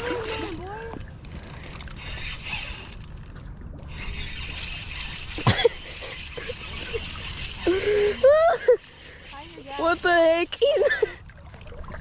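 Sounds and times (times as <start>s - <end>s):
fishing reel ratcheting and whirring: 0.0s - 11.2s.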